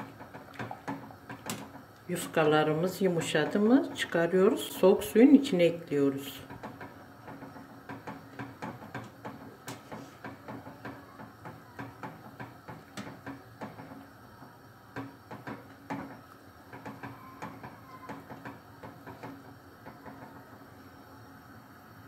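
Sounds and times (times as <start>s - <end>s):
skimmer knocking in boiling pot: 0.0s - 20.9s.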